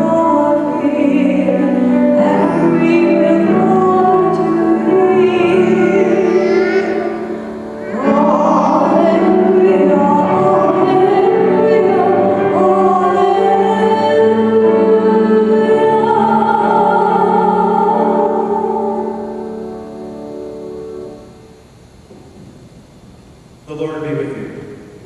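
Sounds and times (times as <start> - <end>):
choir singing church music: 0.0 - 22.5.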